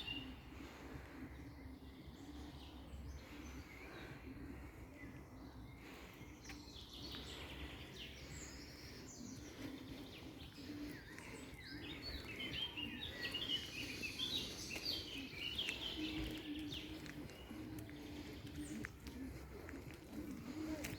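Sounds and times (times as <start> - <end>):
small songbirds chirping: 0.0 - 20.9
steady outdoor background hum: 0.0 - 20.9.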